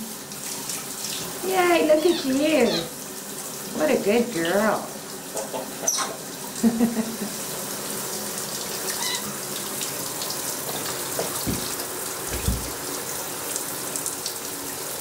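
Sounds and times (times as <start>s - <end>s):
shower spray into bathtub: 0.0s - 15.0s.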